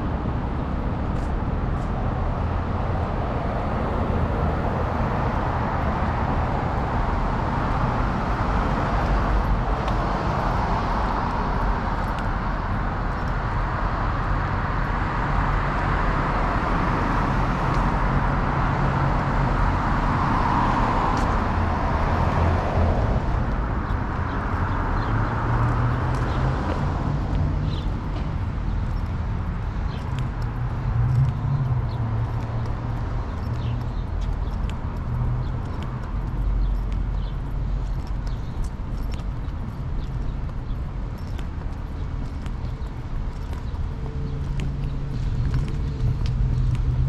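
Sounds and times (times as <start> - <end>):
cars passing: 0.0 - 47.0.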